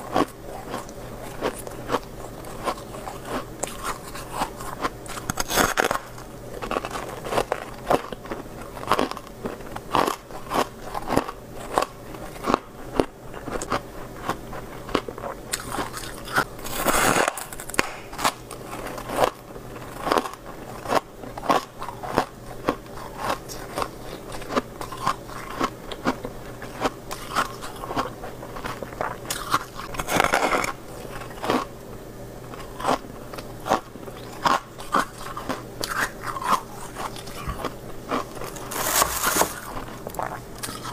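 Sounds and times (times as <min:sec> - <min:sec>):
crunching of chewed frost: 0:00.0 - 0:31.8, 0:32.4 - 0:40.9.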